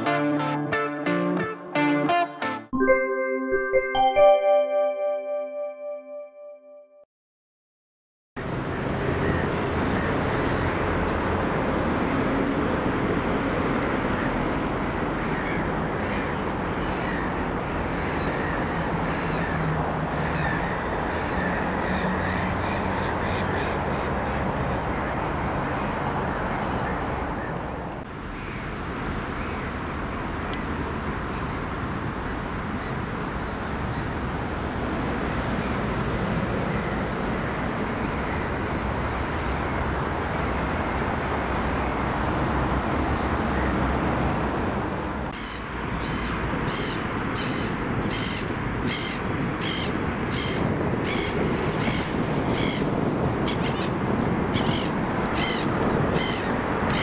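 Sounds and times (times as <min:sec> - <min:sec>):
outdoor background noise: 0:08.4 - 0:57.0.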